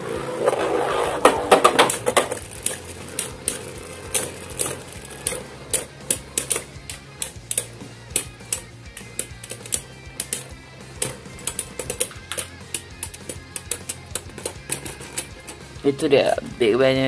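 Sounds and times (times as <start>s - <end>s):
spinning tops clashing clicks: 1.2s - 15.7s.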